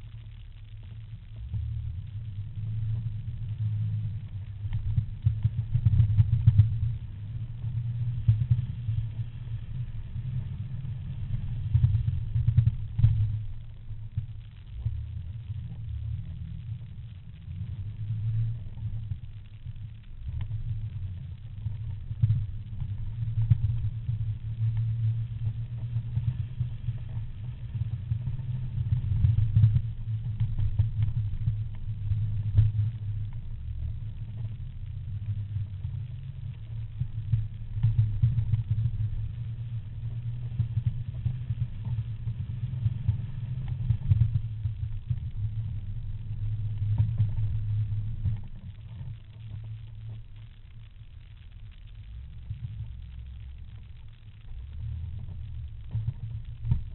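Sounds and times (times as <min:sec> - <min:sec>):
engine rumbling: 0:00.0 - 0:56.9
faint clicks and rattles: 0:00.0 - 0:56.9.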